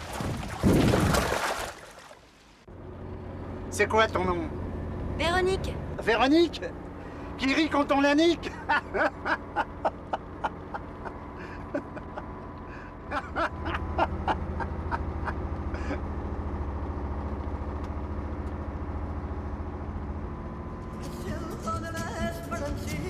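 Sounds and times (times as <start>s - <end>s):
vehicle engine rumbling: 2.2s - 23.0s.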